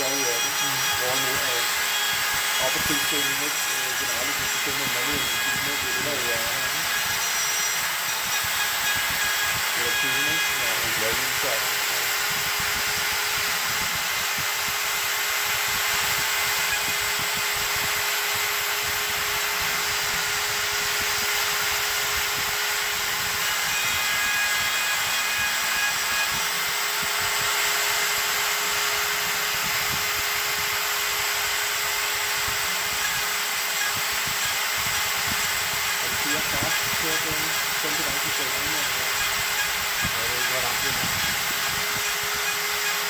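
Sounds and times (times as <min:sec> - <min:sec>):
router spindle milling wood: 0:00.0 - 0:43.0.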